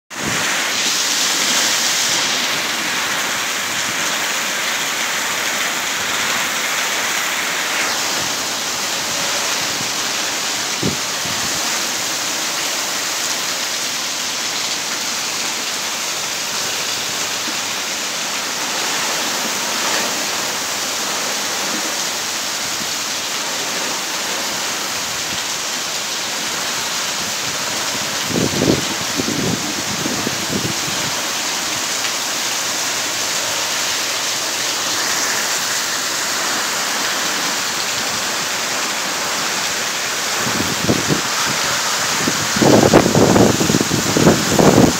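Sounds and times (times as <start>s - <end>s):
hurricane rain and wind: 0.1s - 44.9s.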